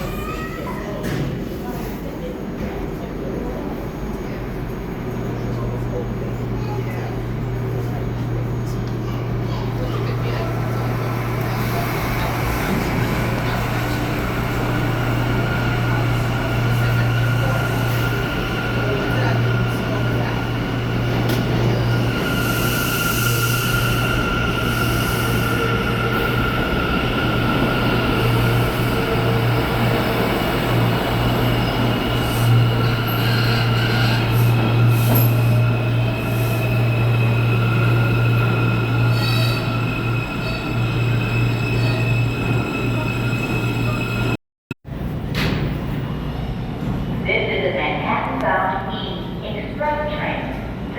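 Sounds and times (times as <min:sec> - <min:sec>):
subway train hum and rumble: 0:00.0 - 0:50.9.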